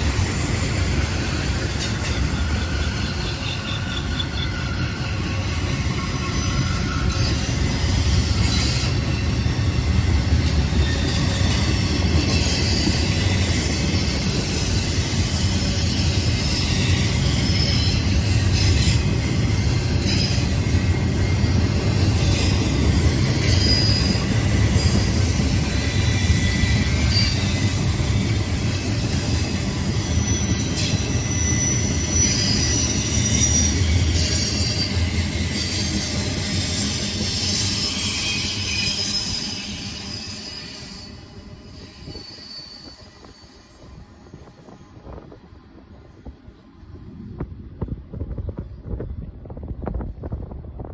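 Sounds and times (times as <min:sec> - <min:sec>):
high-pitched wheel squeals: 0:00.0 - 0:44.7
freight train rumbling on rails: 0:00.0 - 0:50.9.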